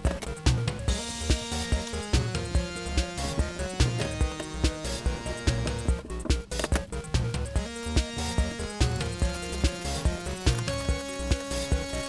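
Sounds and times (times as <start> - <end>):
music with synth notes: 0.0 - 12.0.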